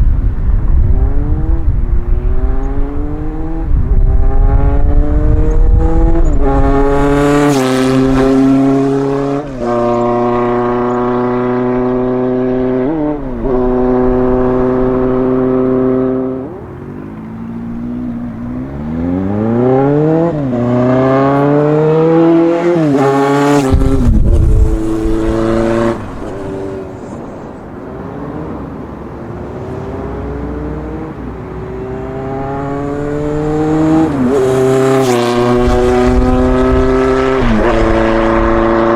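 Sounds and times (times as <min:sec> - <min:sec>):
motorcycle engine accelerating: 0:00.0 - 0:29.0, 0:29.8 - 0:38.9.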